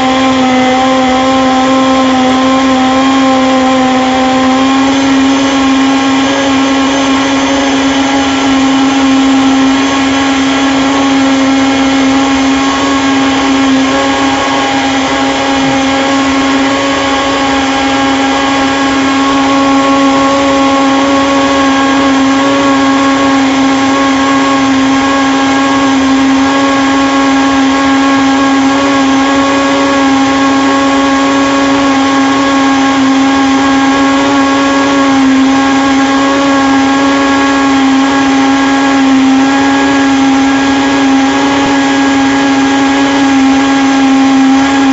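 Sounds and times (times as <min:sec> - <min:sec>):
blender running: 0:00.0 - 0:44.9.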